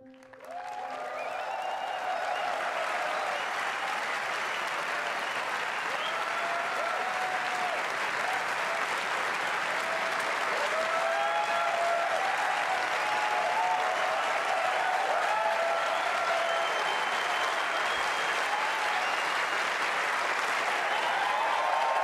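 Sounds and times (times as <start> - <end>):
audience applauding: 0.0 - 22.0
crowd cheering: 0.0 - 22.0.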